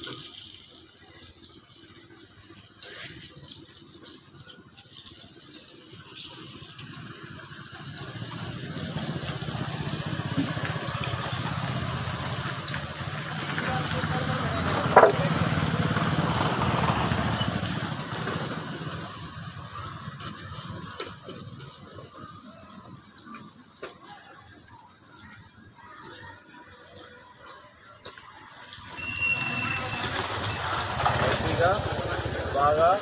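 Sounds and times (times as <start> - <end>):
fritters sizzling in hot oil: 0.0 - 33.0.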